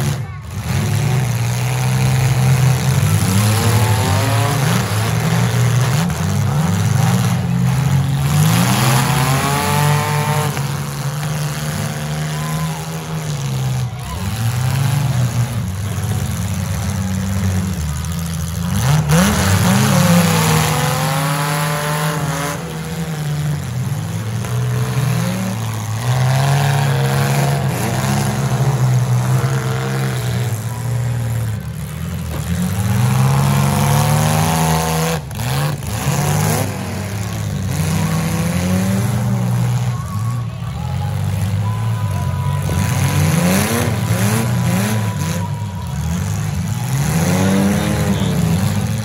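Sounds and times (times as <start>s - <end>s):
car engines revving hard: 0.0s - 49.0s.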